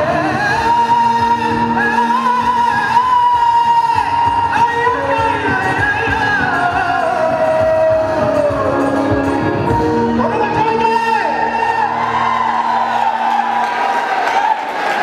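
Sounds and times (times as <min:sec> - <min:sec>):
man singing into microphone: 0:00.0 - 0:12.4
instrumental backing with beat: 0:00.0 - 0:13.9.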